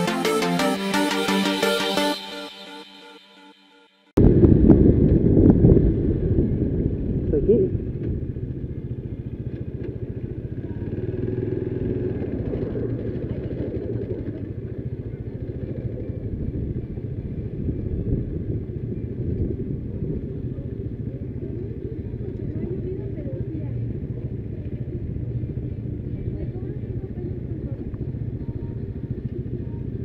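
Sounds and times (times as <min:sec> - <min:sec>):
motorcycle engine at low revs: 0:04.2 - 0:30.0.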